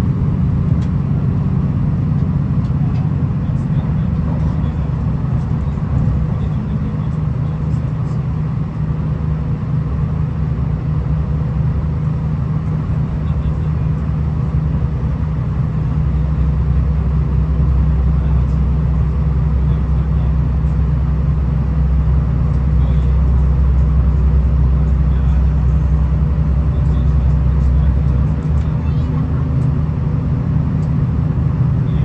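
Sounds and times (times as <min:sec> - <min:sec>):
diesel engine rumble: 0:00.0 - 0:32.0.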